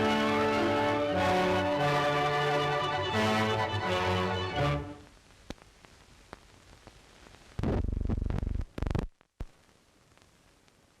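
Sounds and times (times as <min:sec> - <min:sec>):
film soundtrack hiss with pops: 0:00.0 - 0:11.0.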